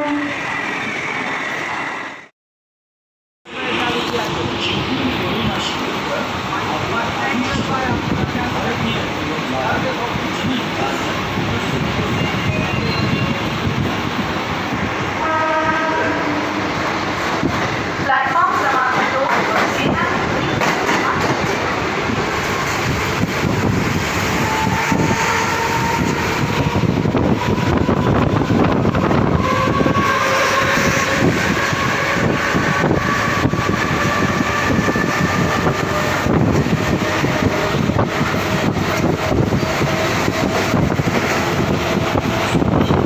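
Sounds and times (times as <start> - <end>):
train wheels rumbling on track: 3.5 - 43.0.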